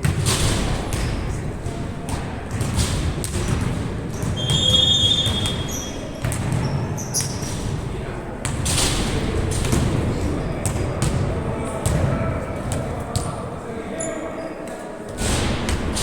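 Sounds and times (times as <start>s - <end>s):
ball bouncing: 0.0s - 13.4s.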